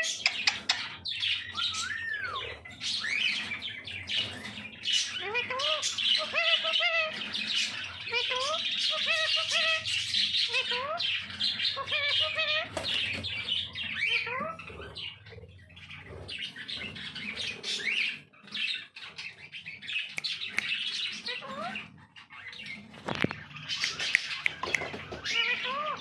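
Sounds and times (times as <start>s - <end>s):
cage birds chirping and squawking: 0.0s - 26.0s.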